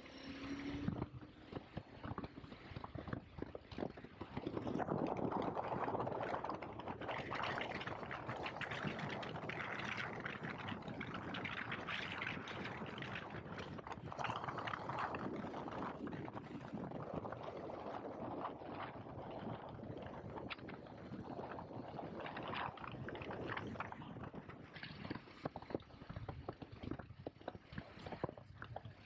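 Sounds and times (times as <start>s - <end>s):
wind and road noise: 0.0s - 29.0s.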